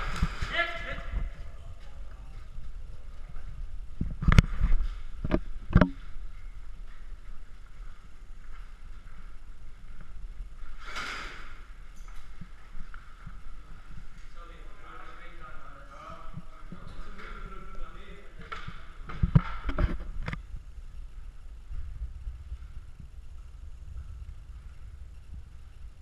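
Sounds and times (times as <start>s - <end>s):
low steady rumble: 0.0s - 10.8s, 11.6s - 26.0s.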